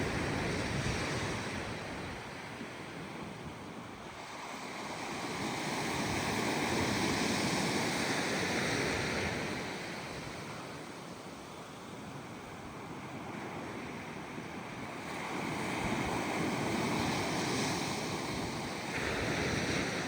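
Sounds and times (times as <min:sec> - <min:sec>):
ocean waves washing on beach: 0:00.0 - 0:20.0.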